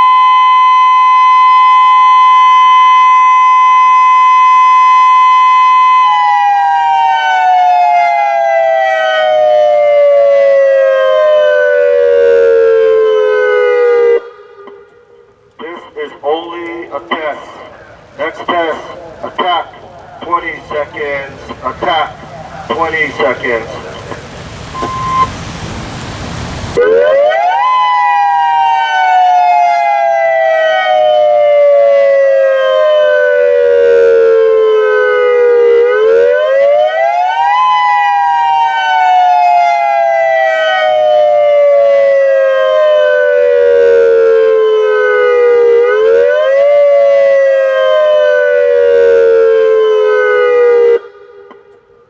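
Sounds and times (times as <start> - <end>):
warning siren two tones sweeping: 0.0 - 16.0, 17.1 - 25.5, 26.7 - 51.6.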